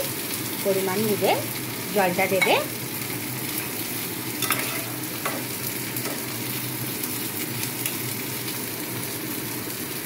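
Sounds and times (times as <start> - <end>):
food sizzling and bubbling in pan: 0.0 - 10.0.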